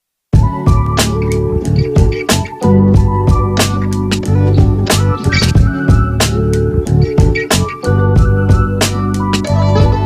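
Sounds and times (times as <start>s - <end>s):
music with drums and bass: 0.4s - 10.0s.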